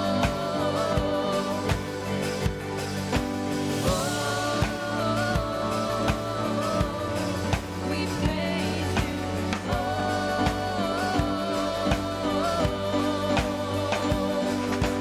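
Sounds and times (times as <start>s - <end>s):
worship music with steady beat: 0.0s - 15.0s.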